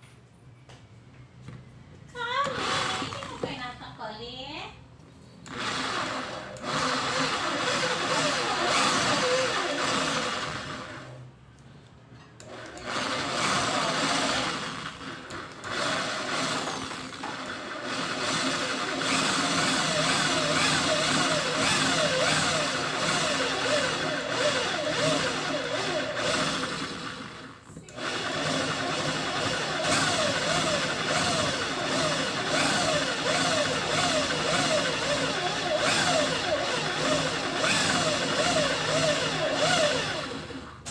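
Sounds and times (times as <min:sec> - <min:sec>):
drill press motor whining: 0:02.4 - 0:03.4, 0:05.4 - 0:11.1, 0:12.4 - 0:40.9.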